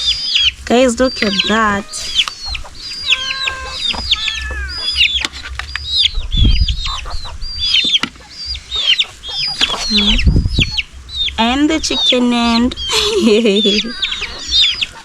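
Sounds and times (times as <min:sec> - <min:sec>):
low rumble: 0:00.0 - 0:14.9
chickens calling: 0:00.0 - 0:15.0.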